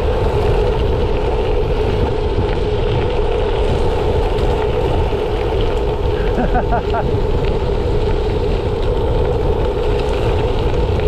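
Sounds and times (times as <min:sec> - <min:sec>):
bike tyres rolling on gravel: 0:00.0 - 0:11.0
wind buffeting microphone: 0:00.0 - 0:11.0.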